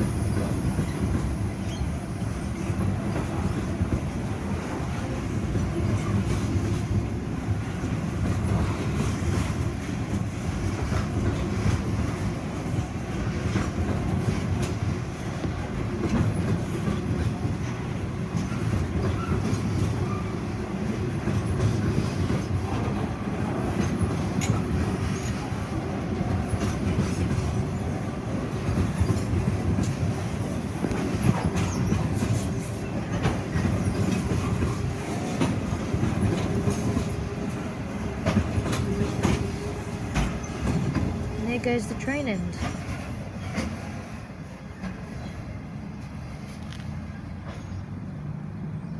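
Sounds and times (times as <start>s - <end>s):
train wheels rumbling: 0.0s - 48.9s.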